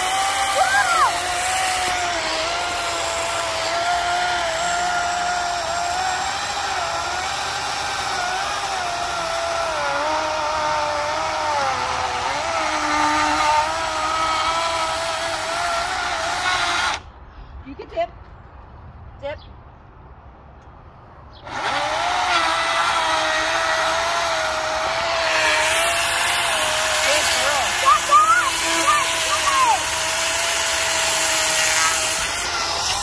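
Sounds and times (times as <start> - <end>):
electric chainsaw cutting wood: 0.0 - 17.1, 21.4 - 33.0.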